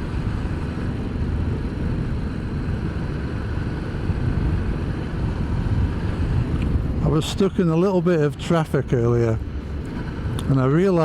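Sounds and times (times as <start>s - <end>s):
motorcycle engine and road rumble: 0.0s - 11.0s
wind rushing over microphone: 0.0s - 11.0s.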